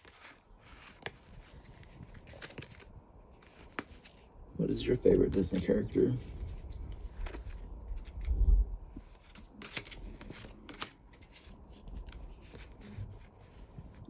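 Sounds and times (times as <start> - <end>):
cards clicking and sliding: 0.0 - 4.3, 5.3 - 13.7.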